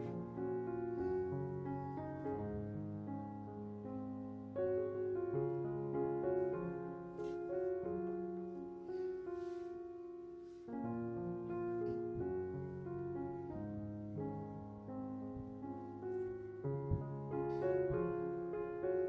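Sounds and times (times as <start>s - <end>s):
background piano music: 0.0s - 19.0s.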